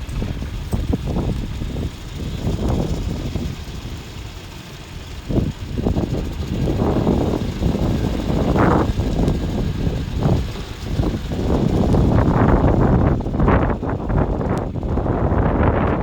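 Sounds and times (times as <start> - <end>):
tractor mower rumbling: 0.0 - 16.0.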